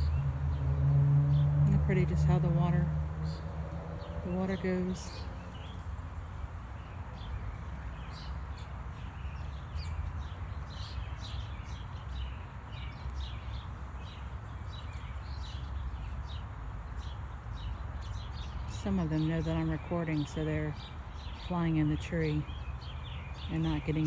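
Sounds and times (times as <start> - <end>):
small birds chirping: 1.3 - 24.0.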